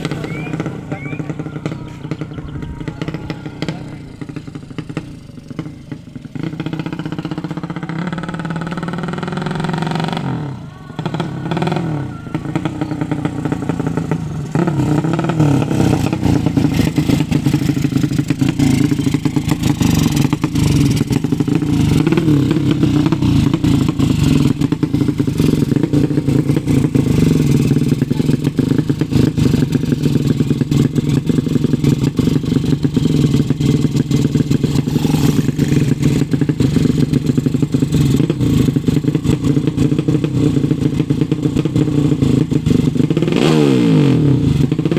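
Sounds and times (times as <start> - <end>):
motorcycle engine running loud: 0.0 - 44.9.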